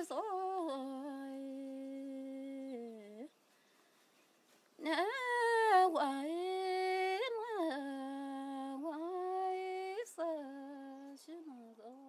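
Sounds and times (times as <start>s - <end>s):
woman singing long notes: 0.0s - 3.3s, 4.8s - 12.0s.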